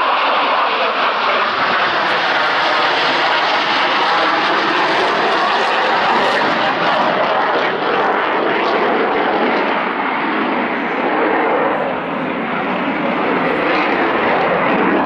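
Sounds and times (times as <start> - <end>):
aircraft engine rushing overhead: 0.0 - 15.0.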